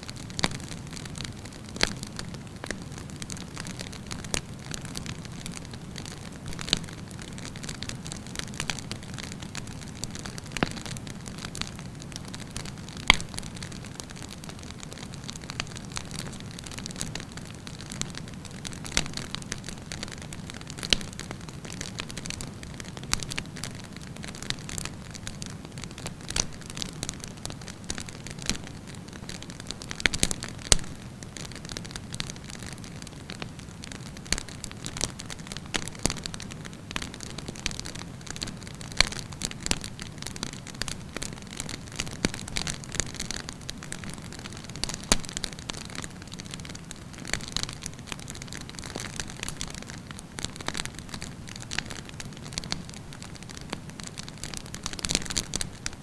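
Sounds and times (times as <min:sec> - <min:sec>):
low rumble of flames: 0:00.0 - 0:56.0
campfire logs crackling: 0:00.1 - 0:56.0.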